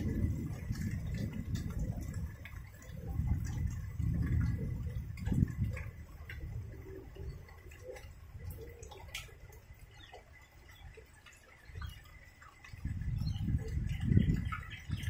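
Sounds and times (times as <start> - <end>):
rain drips: 0.0 - 15.0.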